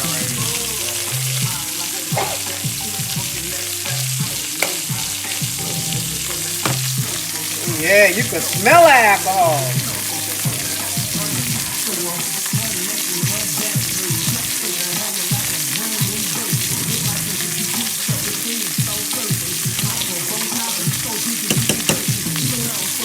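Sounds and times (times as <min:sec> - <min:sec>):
chicken sizzling in a hot pan: 0:00.0 - 0:23.0.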